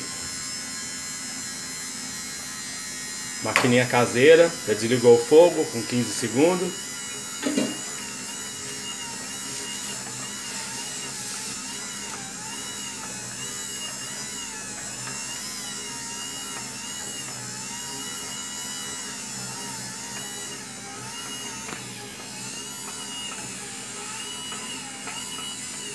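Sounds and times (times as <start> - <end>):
electric motor whine: 0.0 - 25.9.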